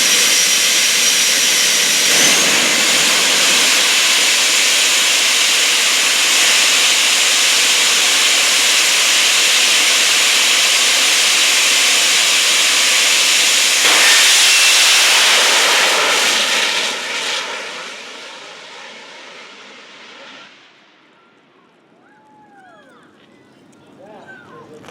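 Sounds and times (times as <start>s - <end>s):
jet turbine engine roaring: 0.0s - 21.2s.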